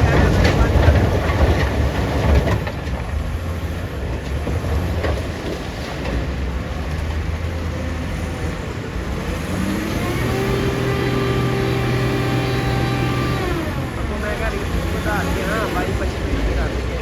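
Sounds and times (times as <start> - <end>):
diesel engine running and revving: 0.0 - 17.0.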